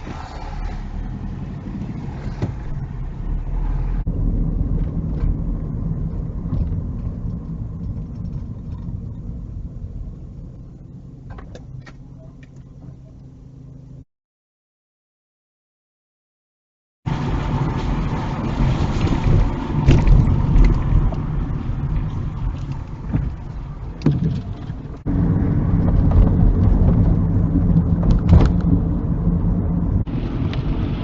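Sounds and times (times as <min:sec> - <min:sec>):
car engine and road noise: 0:00.0 - 0:14.1, 0:17.1 - 0:31.0.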